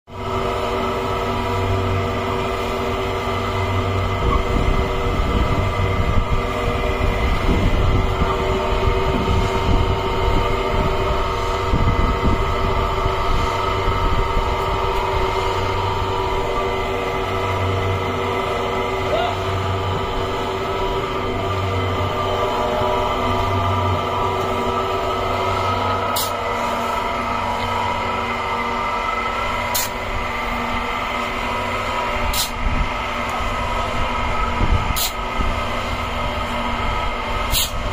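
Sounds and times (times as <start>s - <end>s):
concrete mixer motor humming: 0.1s - 37.9s.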